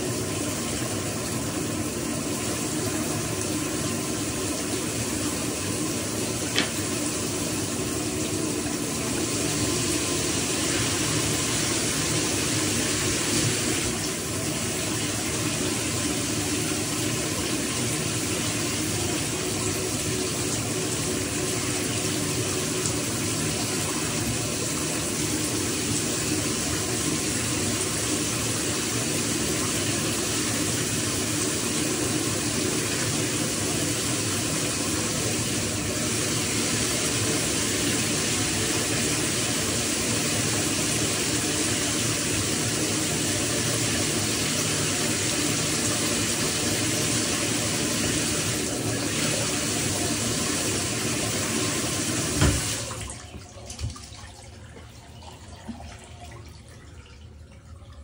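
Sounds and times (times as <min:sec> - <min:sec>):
shower water running: 0:00.0 - 0:58.0.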